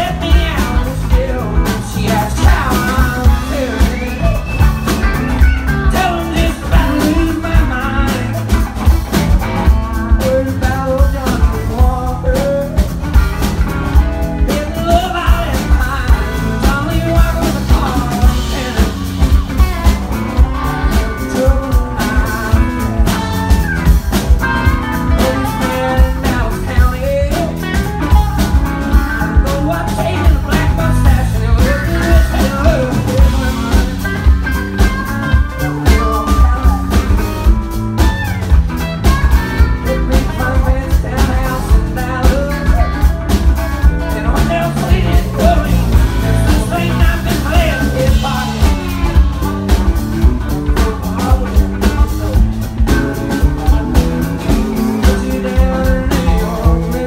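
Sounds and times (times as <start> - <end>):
lead vocal singing: 0.0 - 9.0, 9.7 - 13.1, 14.0 - 37.6, 39.7 - 57.0
drum kit beat: 0.0 - 57.0.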